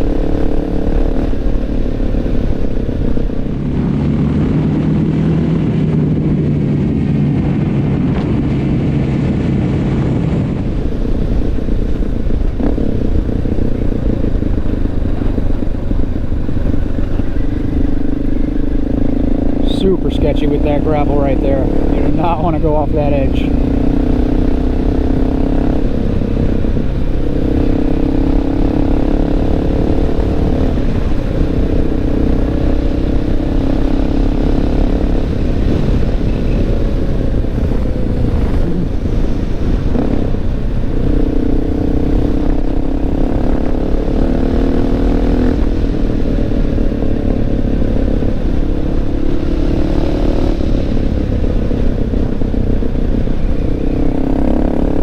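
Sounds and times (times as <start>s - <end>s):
motorcycle engine revving: 0.0s - 55.0s
wind on microphone: 0.0s - 55.0s.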